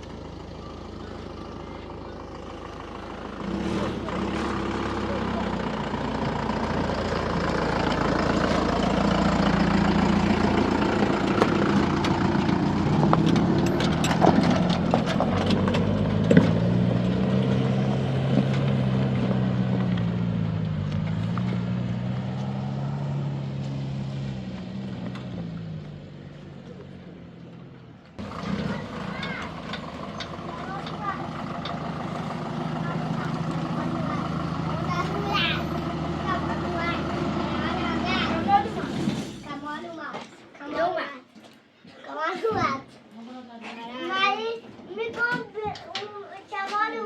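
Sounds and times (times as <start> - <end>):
truck engine revving: 0.0 - 39.8.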